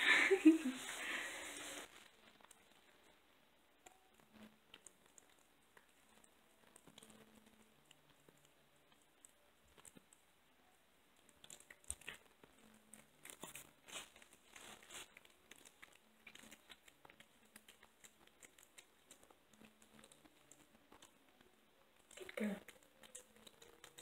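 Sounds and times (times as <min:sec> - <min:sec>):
kitten chewing: 0:00.8 - 0:24.0.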